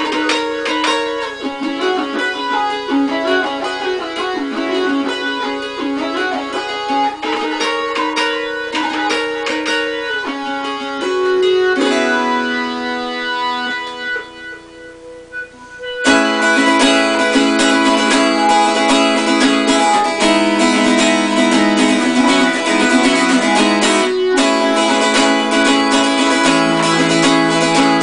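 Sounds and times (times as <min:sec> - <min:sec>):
guitar picking quick notes: 0:00.0 - 0:28.0
keyboard synthesizer melody: 0:00.0 - 0:28.0.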